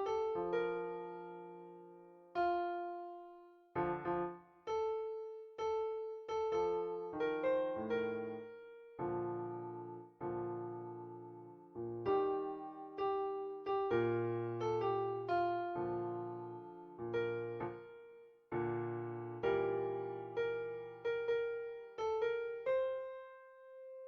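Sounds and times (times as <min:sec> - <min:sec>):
keyboard piano hymn melody: 0:00.0 - 0:24.0.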